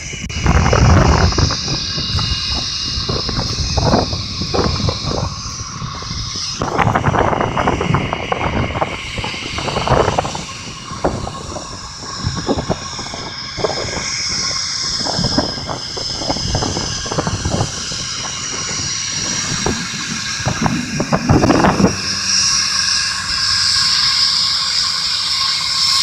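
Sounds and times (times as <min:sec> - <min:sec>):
wind buffeting microphone: 0:00.0 - 0:25.2
jet engines running: 0:00.0 - 0:26.0.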